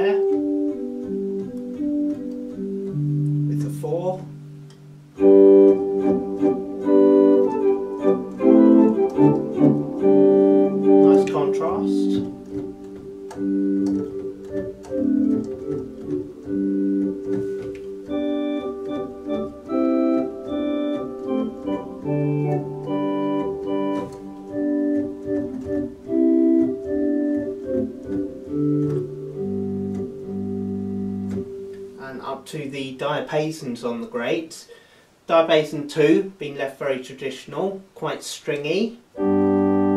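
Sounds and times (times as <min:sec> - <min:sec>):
organ playing slow chords: 0:00.0 - 0:32.0, 0:39.2 - 0:39.9
low organ bass notes: 0:00.0 - 0:32.8, 0:39.2 - 0:39.9.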